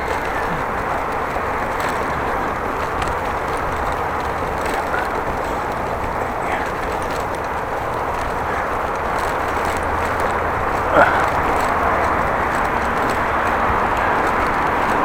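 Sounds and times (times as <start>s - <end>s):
bicycle ticking: 0.0s - 15.0s
wind and tyre noise: 0.0s - 15.0s.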